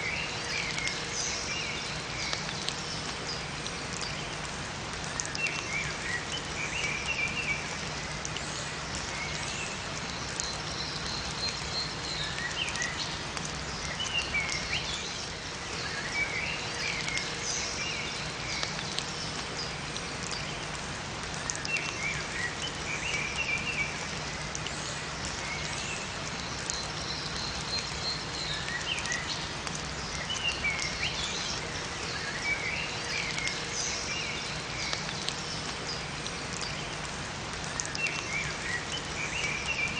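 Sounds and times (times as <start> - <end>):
songbirds chirping: 0.0 - 39.9
steady rain: 0.0 - 39.9.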